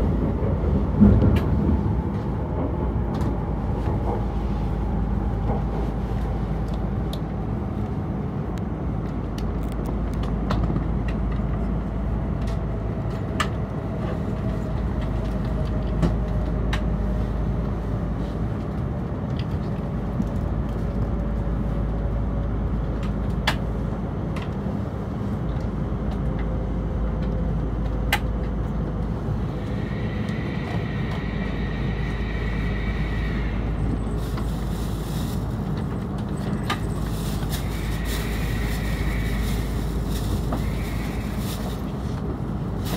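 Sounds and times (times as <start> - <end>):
train rumble and falling whine: 0.0 - 42.9.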